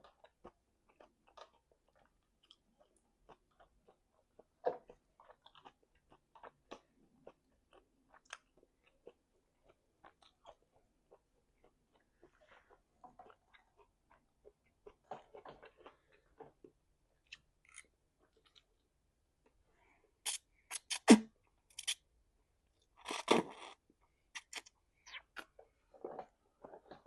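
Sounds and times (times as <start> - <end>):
person chewing food: 0.0 - 19.6, 20.3 - 22.0, 22.8 - 27.0.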